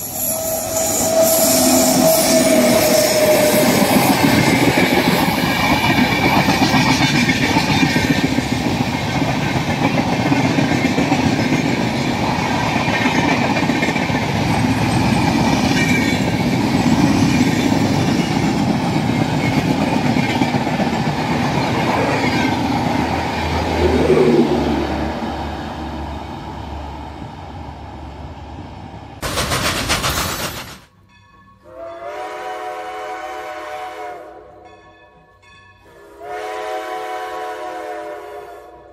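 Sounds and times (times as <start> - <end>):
train wheels rolling on track: 0.0 - 31.2.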